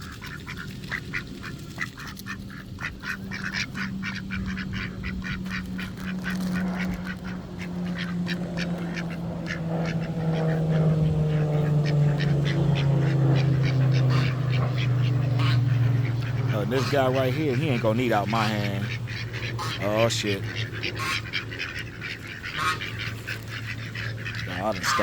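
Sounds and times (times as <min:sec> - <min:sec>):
ducks quacking: 0:00.0 - 0:25.0
low steady hum: 0:00.0 - 0:25.0.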